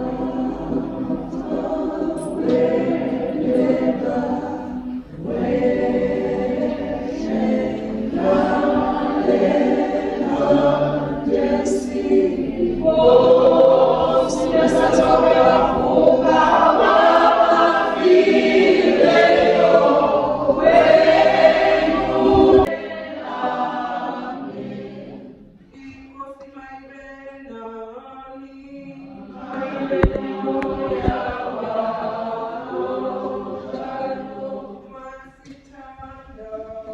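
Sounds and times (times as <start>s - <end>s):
choir singing: 0.0s - 25.6s, 28.4s - 35.6s.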